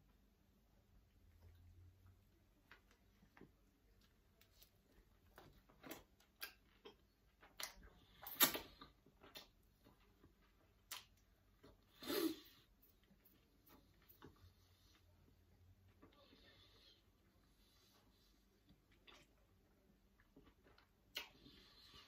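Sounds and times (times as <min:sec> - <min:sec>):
person chewing food: 0:01.1 - 0:22.0.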